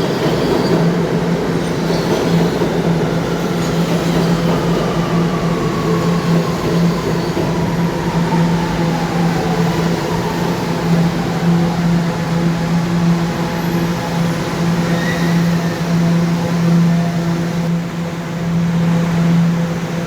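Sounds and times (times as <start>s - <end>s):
subway train electrical hum: 0.0s - 20.0s.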